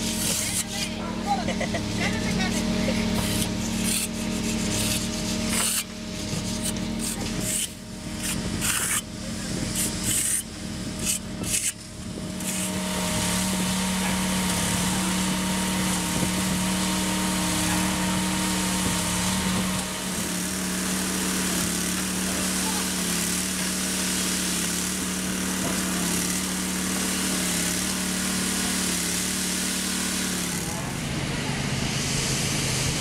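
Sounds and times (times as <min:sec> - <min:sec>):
hand tool scraping wet concrete: 0:00.0 - 0:30.8
kerbing machine and mixer truck drone: 0:00.0 - 0:33.0
steady engine hum: 0:00.0 - 0:33.0.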